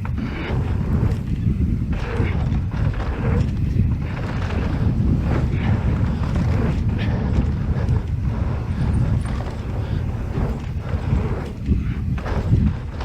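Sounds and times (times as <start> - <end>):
bike knocking and rattling: 0.0 - 13.0
bike tyres rolling on dirt: 0.0 - 13.0
wind rumble on microphone: 0.0 - 13.0.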